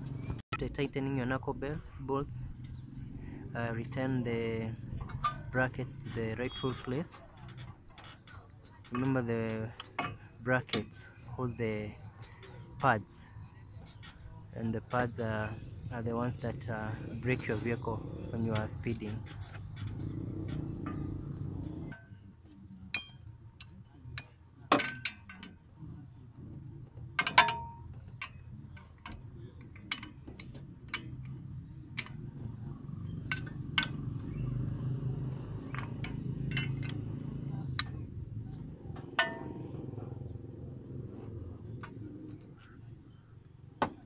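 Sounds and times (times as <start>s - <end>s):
metal tools clinking and clanking: 3.6s - 22.2s, 22.9s - 25.8s, 26.9s - 44.0s.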